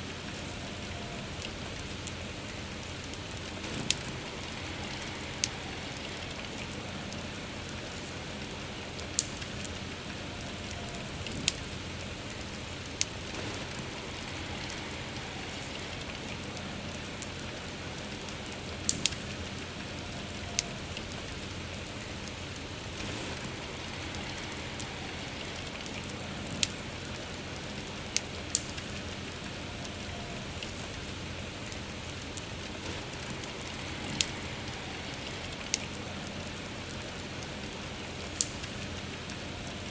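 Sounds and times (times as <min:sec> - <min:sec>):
soft rain: 0:00.0 - 0:39.9
wood fire crackling and popping: 0:00.0 - 0:39.9.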